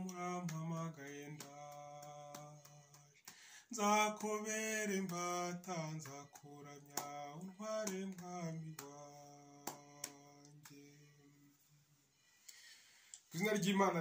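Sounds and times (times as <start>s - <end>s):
man singing a hymn: 0.0s - 11.6s.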